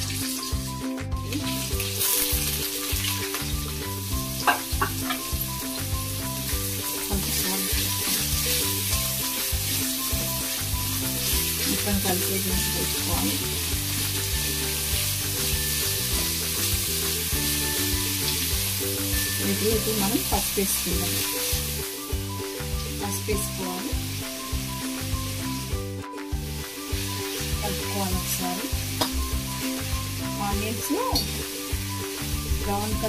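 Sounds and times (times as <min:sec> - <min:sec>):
onions sizzling in hot oil: 0:00.0 - 0:33.0.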